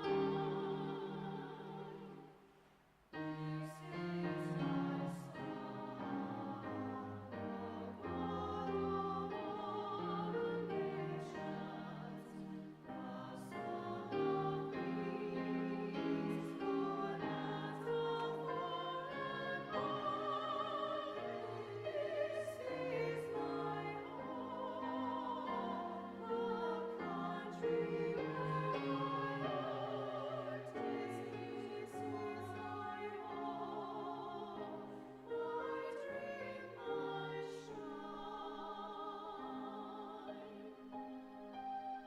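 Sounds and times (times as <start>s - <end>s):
women's choir singing hymn: 0.0s - 2.4s, 3.2s - 42.0s.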